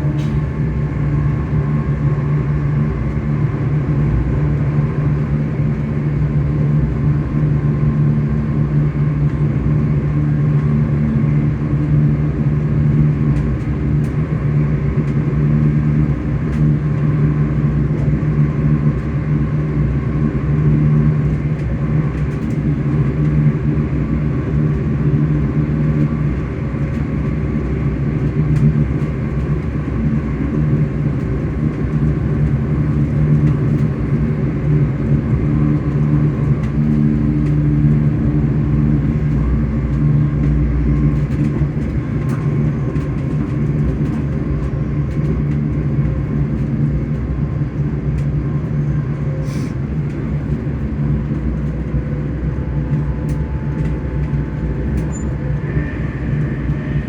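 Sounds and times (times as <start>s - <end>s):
electric train motors humming: 0.0s - 57.0s
train rumbling in motion: 0.0s - 57.0s.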